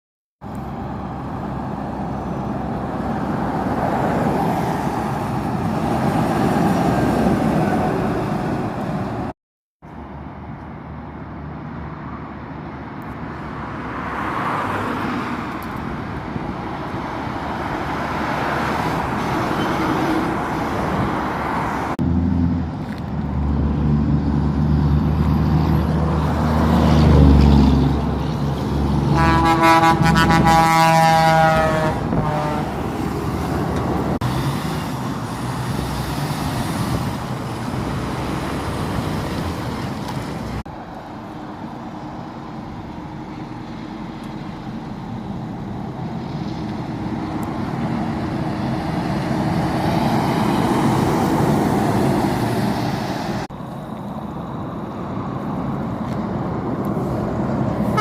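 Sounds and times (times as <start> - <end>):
road traffic passing: 0.4 - 58.0.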